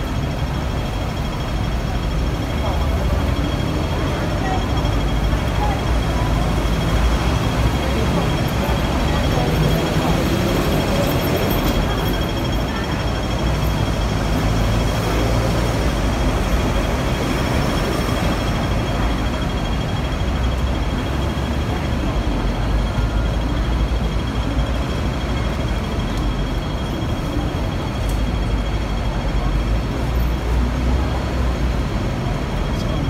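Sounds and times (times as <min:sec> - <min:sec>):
murmur of crowd: 0:00.0 - 0:33.0
rumble of buses and trams: 0:00.0 - 0:33.0.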